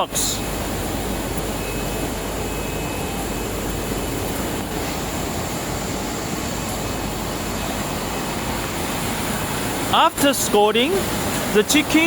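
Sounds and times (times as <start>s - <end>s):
machinery rushing noise: 0.0s - 12.0s.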